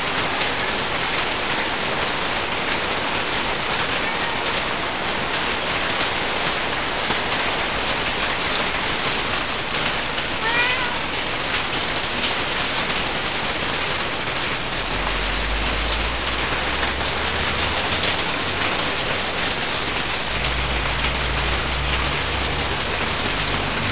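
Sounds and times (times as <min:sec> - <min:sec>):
steady rain hiss: 0:00.0 - 0:23.9.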